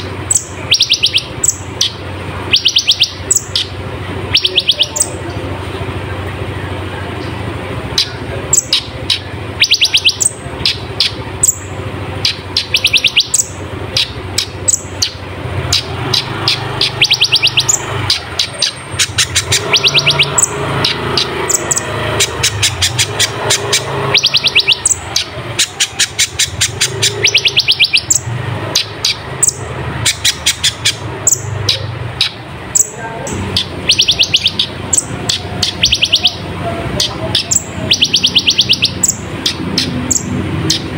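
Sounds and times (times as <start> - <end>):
sunbird singing high trills: 0.0 - 5.2, 8.0 - 40.9
steady low hum: 0.0 - 40.9.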